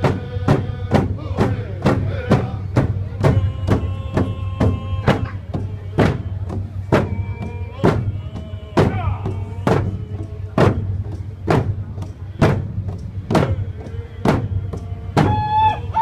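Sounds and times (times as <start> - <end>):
hand drums beating: 0.0 - 16.0
voices singing: 0.0 - 16.0.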